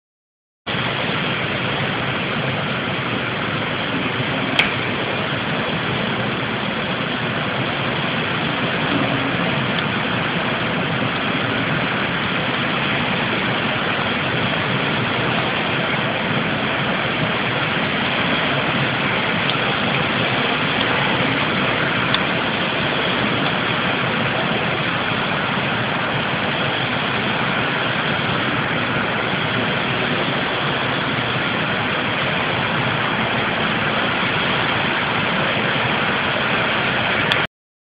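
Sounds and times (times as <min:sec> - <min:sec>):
steady rushing noise: 0:00.7 - 0:37.5.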